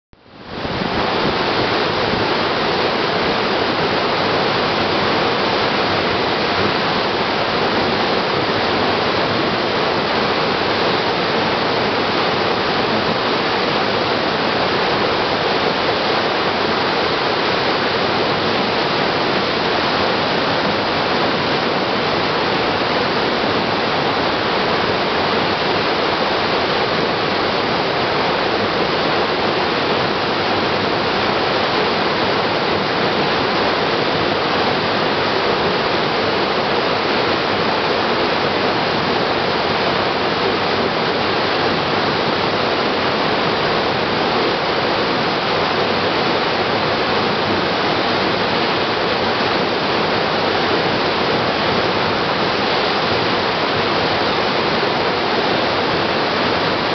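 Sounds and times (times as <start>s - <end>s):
waterfall rushing: 0.2s - 56.9s.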